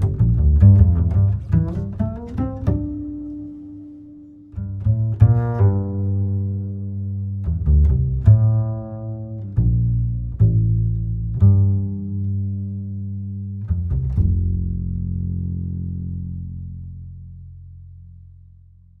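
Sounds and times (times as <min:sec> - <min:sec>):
low plucked string notes: 0:00.0 - 0:18.4.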